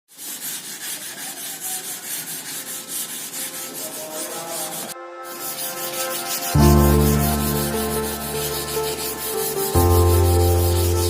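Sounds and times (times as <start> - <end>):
sandpaper rubbing on metal panel: 0.1 - 11.0.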